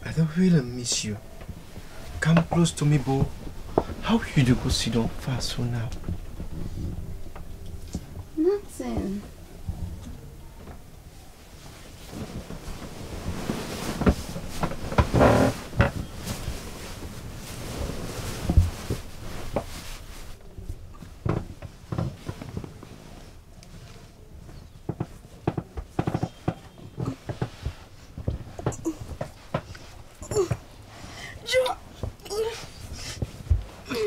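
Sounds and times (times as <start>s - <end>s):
rustling and knocks on a bed: 0.5s - 34.0s.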